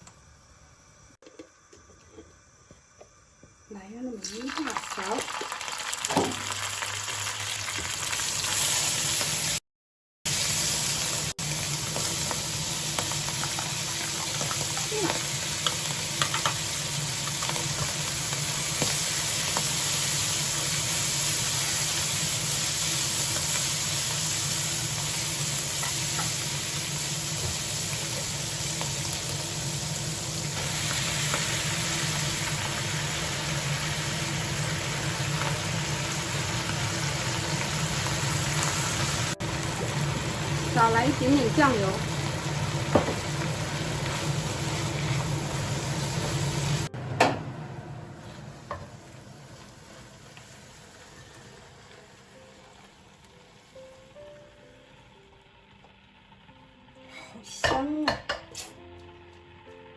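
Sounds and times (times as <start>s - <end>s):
food sizzling in a wok: 2.1s - 9.6s, 10.3s - 59.9s.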